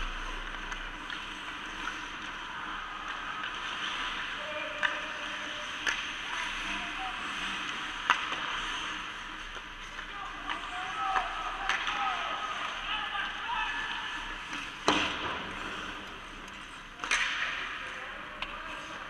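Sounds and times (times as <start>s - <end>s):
hockey sticks and puck clacking: 0.0s - 19.0s
skates scraping ice: 0.0s - 19.0s.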